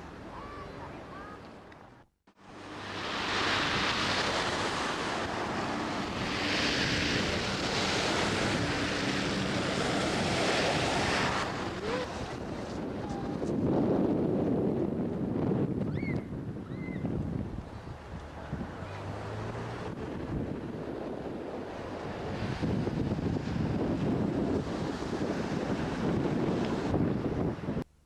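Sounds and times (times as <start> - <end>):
wind buffeting microphone: 2.5 - 27.9.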